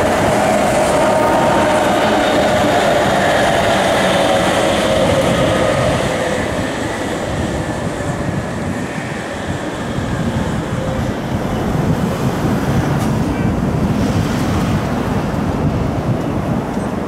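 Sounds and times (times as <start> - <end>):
electric train rumbling over bridge: 0.0 - 17.0
wind buffeting microphone: 0.0 - 17.0.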